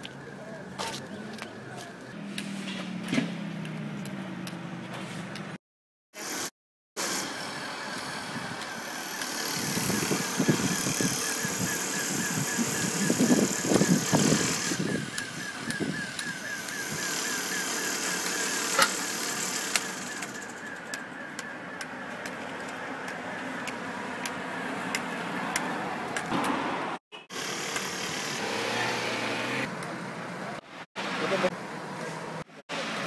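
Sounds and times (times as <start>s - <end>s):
street traffic noise: 0.0s - 5.6s, 6.2s - 33.0s.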